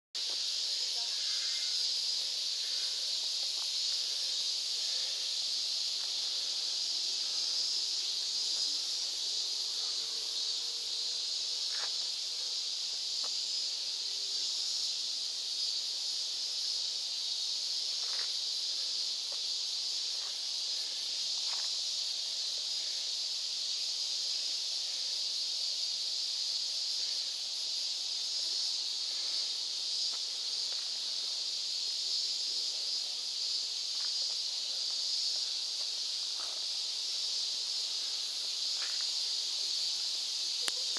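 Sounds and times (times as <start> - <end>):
cicadas droning: 0.2 - 40.9.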